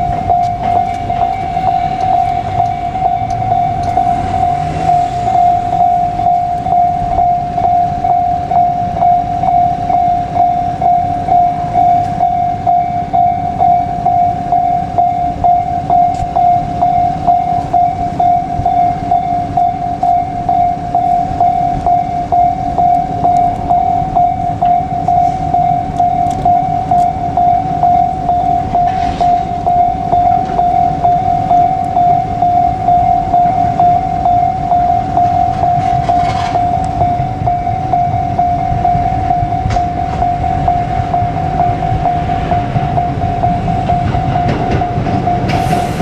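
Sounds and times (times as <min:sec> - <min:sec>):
continuous low rumble: 0:00.0 - 0:45.4
level crossing warning bell ringing: 0:00.0 - 0:46.0.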